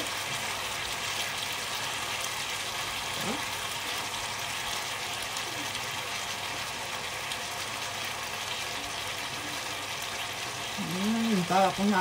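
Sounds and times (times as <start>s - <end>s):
sauce simmering in a wok: 0.0s - 12.0s.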